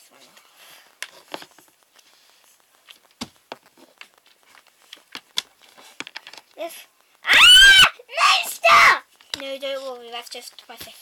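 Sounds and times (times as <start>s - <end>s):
doll handling crinkles: 0.1s - 7.2s, 9.0s - 11.0s.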